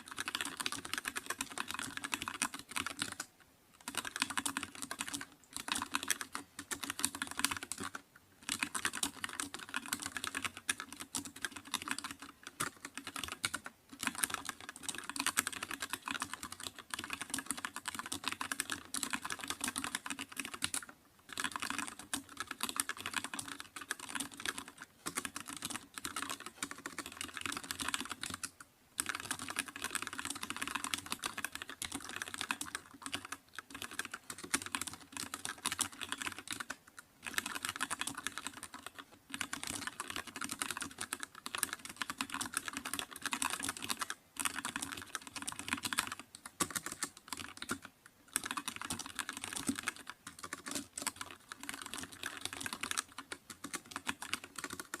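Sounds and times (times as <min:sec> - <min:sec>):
typing on computer keyboard: 0:00.0 - 0:55.0.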